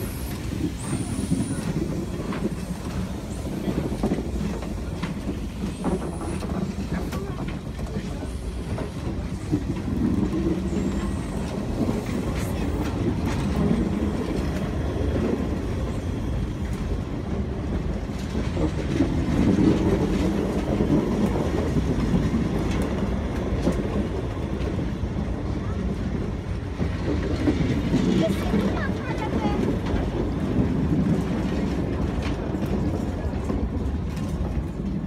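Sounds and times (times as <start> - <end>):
train wheels rumbling on rails: 0.0 - 35.0
wheels clicking over rail joints: 0.0 - 35.0.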